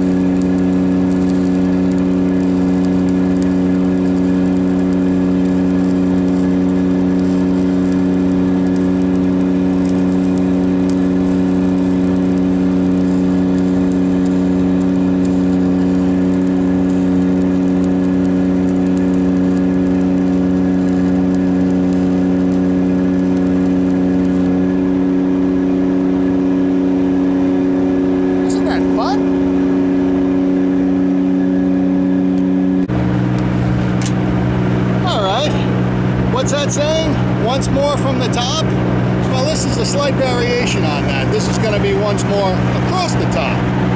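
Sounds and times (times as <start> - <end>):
engine droning hum: 0.0 - 43.9
faint high crackle: 0.0 - 43.9.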